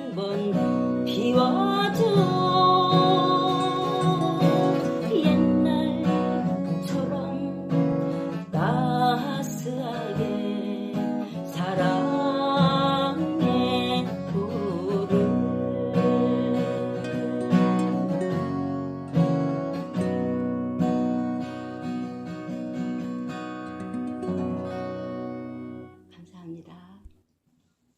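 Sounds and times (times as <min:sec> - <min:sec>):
acoustic guitar strumming: 0:00.0 - 0:26.2.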